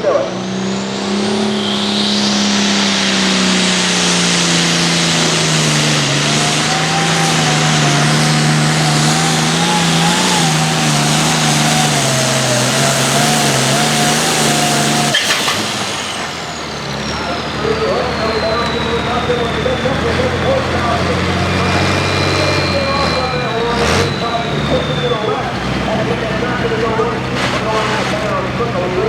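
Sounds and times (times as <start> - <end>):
wavering whine: 0.0 - 28.4
tractor diesel engine under load: 0.0 - 29.0.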